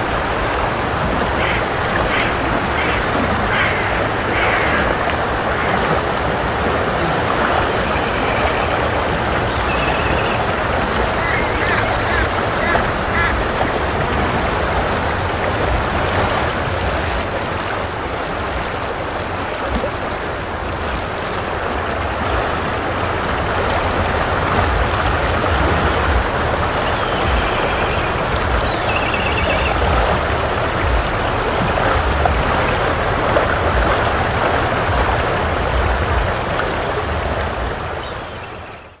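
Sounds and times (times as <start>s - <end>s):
river rushing over its bed: 0.0s - 39.0s.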